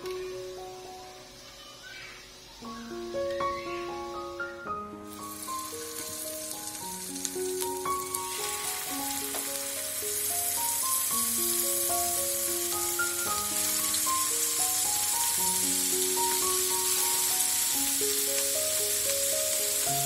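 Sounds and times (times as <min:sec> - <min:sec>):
fish sizzling in hot oil: 0:00.7 - 0:20.0
background music of held notes: 0:02.6 - 0:20.0.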